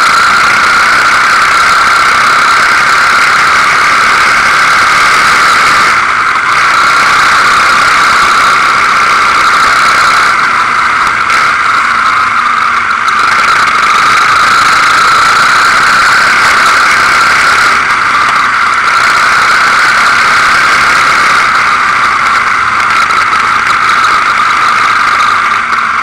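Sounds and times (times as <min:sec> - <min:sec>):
quad bike engine whining: 0:00.0 - 0:26.0.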